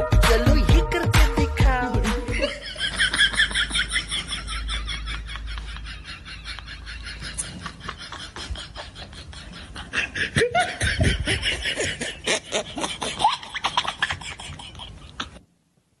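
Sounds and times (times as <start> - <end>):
person laughing: 2.3 - 15.4.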